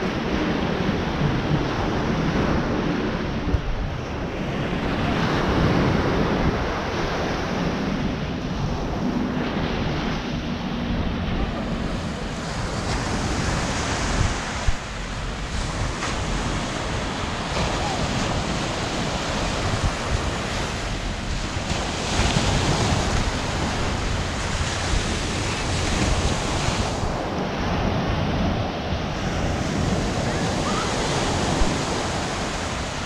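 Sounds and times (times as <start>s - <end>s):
small waves washing onto beach: 0.0s - 33.0s
wind buffeting microphone: 0.0s - 33.0s.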